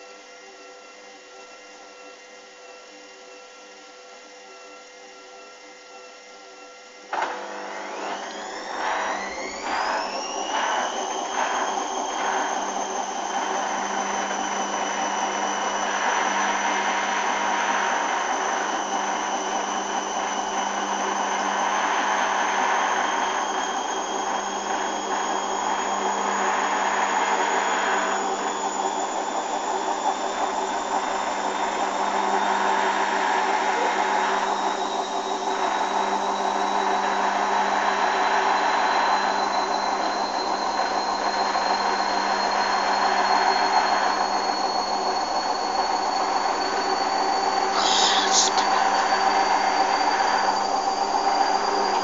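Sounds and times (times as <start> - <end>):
washing machine motor whining: 0.0 - 52.0.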